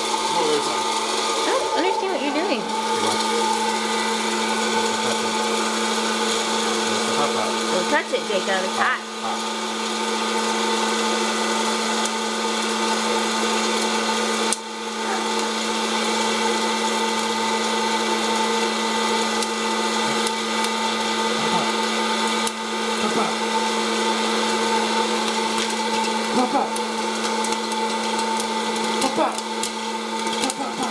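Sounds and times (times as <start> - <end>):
popcorn popper fan hum: 0.0 - 30.9.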